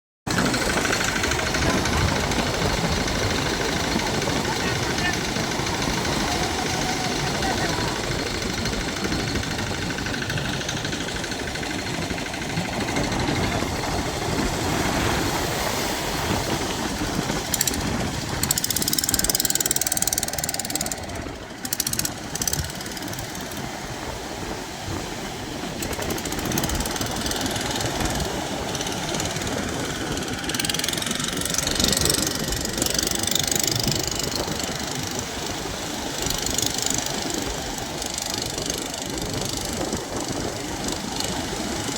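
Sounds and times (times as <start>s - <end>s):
boat engine rumbling: 0.3s - 41.9s.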